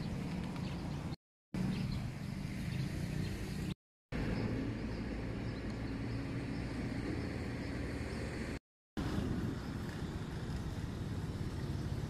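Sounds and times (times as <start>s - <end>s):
road traffic rumble and hiss: 0.0s - 12.0s.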